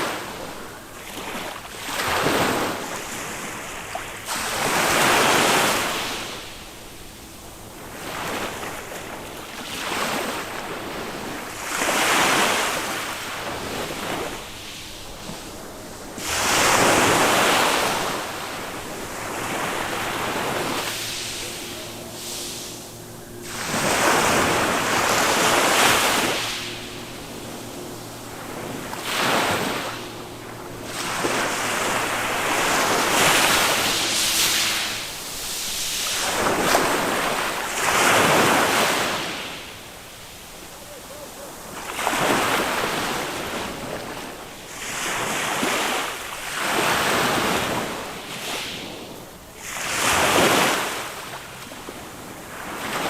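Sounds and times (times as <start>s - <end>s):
small waves washing on beach: 0.0s - 53.0s.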